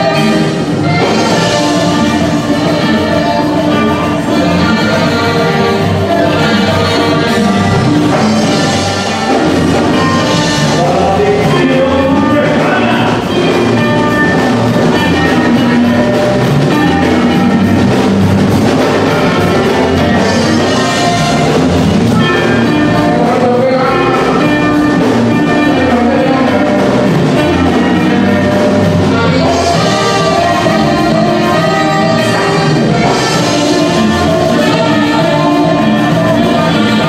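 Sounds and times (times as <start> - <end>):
dance band with drums and horns: 0.0 - 37.0.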